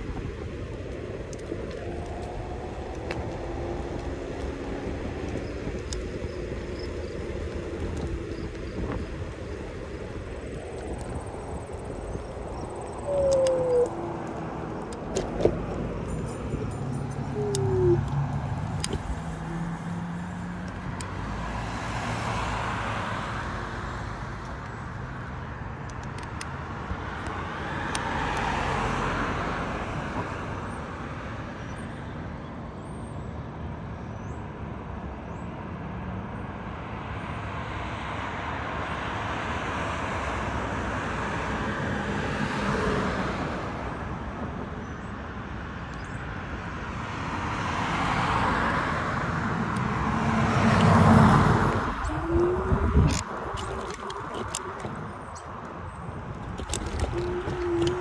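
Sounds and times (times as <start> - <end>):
cars passing: 0.0 - 32.2, 36.8 - 58.0
road traffic noise: 0.0 - 58.0.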